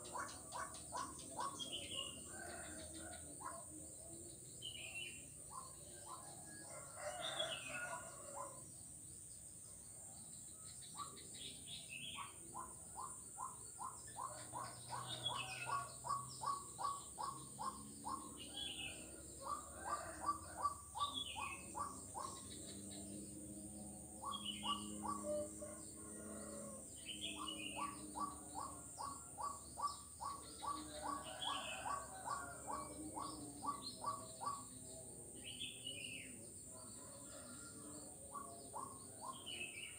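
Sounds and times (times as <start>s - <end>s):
frogs calling repeated notes: 0.0s - 39.9s.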